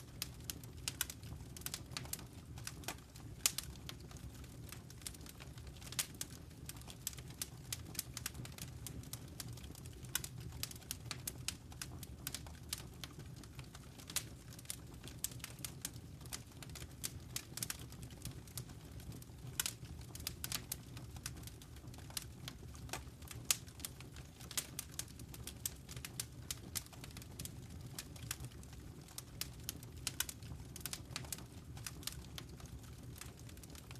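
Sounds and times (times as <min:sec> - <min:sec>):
fire crackling in a fireplace: 0:00.0 - 0:33.9.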